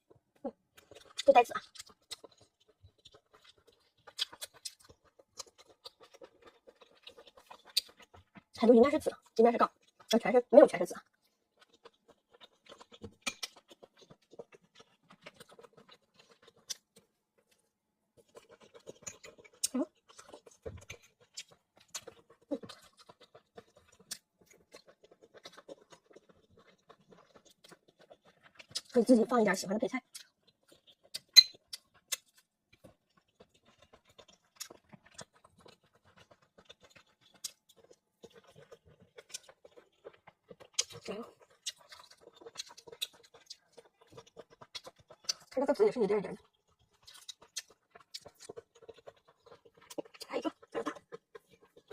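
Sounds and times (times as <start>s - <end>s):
wet chewing clicks and smacks: 0.0s - 51.9s.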